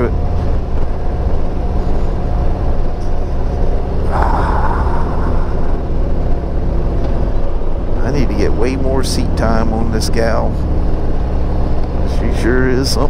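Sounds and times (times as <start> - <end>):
motorcycle engine rumbling: 0.0 - 13.0
rushing wind: 0.0 - 13.0.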